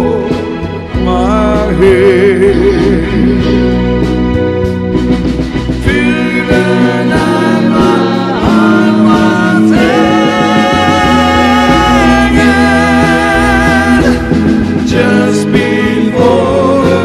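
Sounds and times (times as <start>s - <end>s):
man singing with vibrato: 0.0s - 3.8s, 5.8s - 17.0s
pop band playing ballad: 0.0s - 17.0s.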